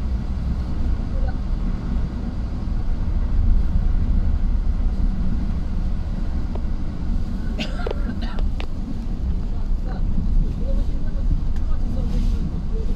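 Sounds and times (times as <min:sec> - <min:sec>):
tyre noise on road: 0:00.0 - 0:12.9
vehicle engine rumble: 0:00.0 - 0:12.9.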